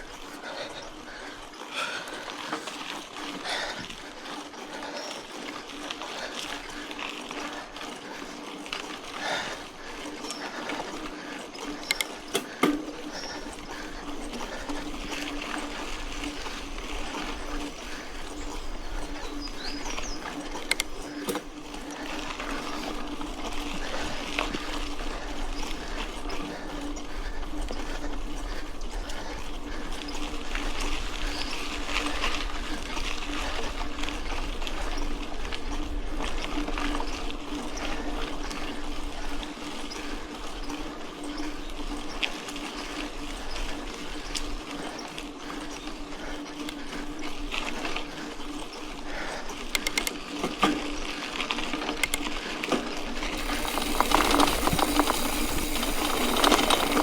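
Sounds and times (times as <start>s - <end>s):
bike tyres crackling on gravel: 0.1s - 39.4s, 50.3s - 57.0s.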